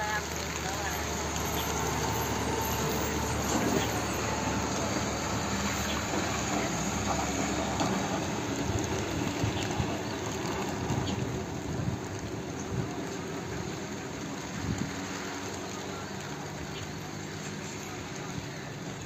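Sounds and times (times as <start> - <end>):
bus engine driving past: 0.0 - 19.0
rain hissing: 0.0 - 19.0.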